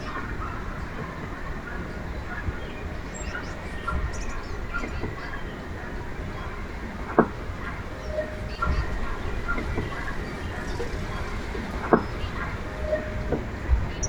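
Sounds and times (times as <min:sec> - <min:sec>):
small birds chirping: 0:00.0 - 0:14.0
low background rumble: 0:01.6 - 0:14.0.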